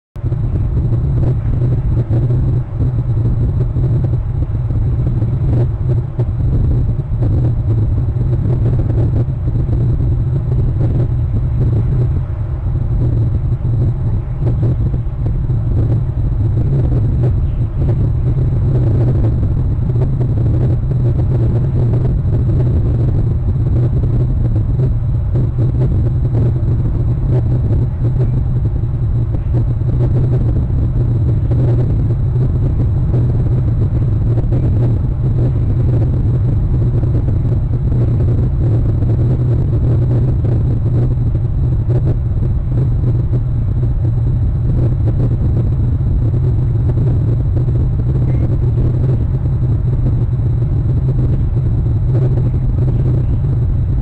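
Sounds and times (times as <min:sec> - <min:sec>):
loud low rumble: 0:00.0 - 0:54.0.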